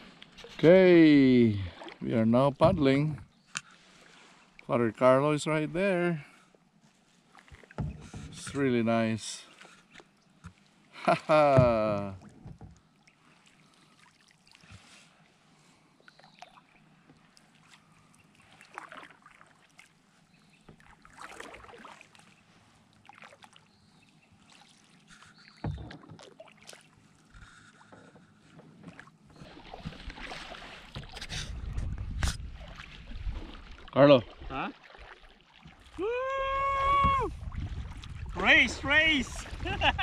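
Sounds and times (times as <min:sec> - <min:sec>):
paddle splashing in water: 0:01.3 - 0:04.6, 0:06.9 - 0:08.6, 0:09.4 - 0:15.6, 0:16.2 - 0:40.0.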